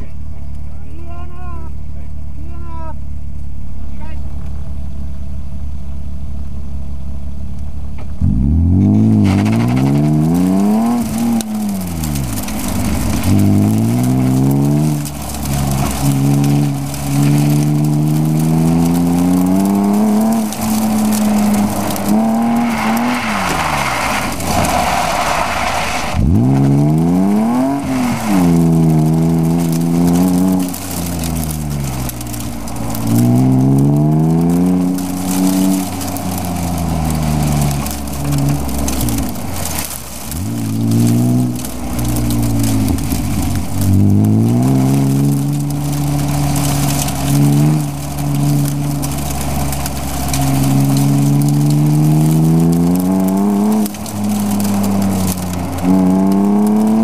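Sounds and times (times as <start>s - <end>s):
car engine revving: 0.0s - 57.0s
tyres squealing: 9.1s - 57.0s.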